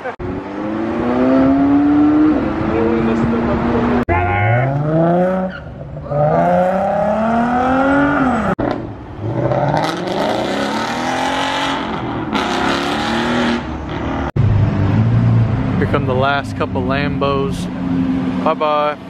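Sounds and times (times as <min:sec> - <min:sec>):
car engines accelerating hard: 0:00.0 - 0:19.0.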